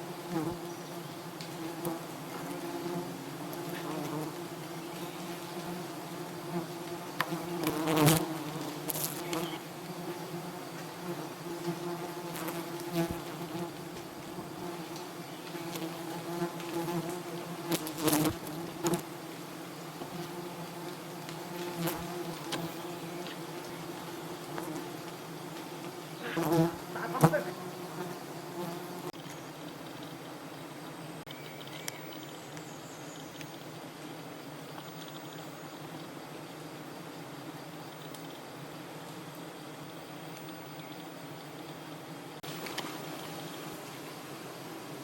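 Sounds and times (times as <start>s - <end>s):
bees buzzing: 0.0s - 31.3s, 38.5s - 45.0s.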